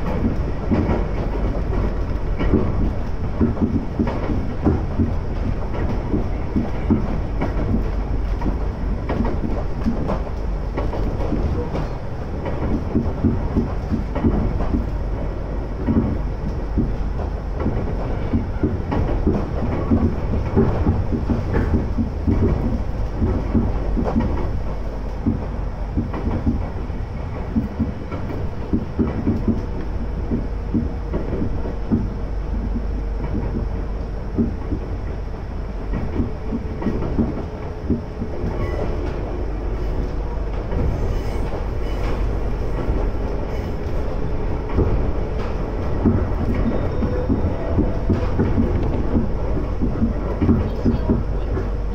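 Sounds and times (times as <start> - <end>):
train rumble: 0.0 - 51.9.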